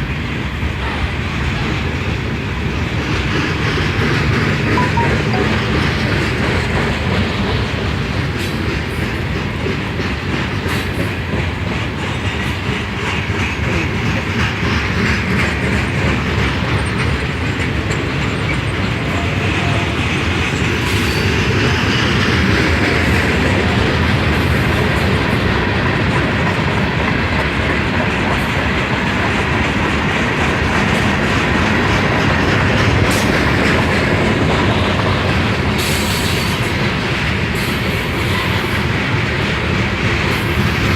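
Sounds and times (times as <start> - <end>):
freight train rumbling: 0.0 - 40.9
wheels clacking over rail joints: 6.3 - 40.9.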